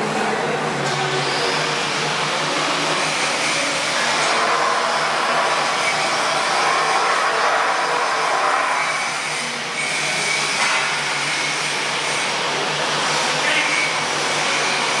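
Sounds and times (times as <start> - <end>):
loud machine hiss with low hum: 1.1 - 15.0.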